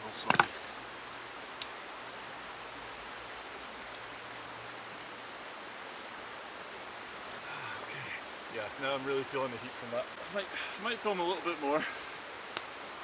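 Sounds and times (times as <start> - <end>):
campfire crackle: 0.0 - 13.0
river rushing: 0.0 - 13.0.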